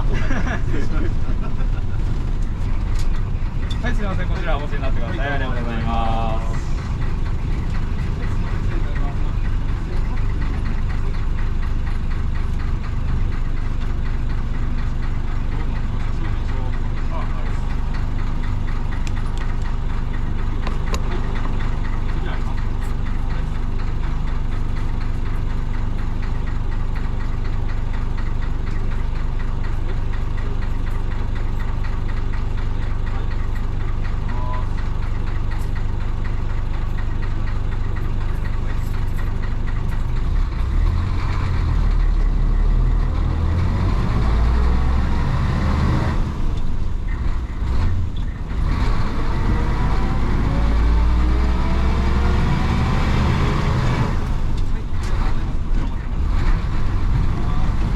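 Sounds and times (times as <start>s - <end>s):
diesel bus engine: 0.0s - 57.9s.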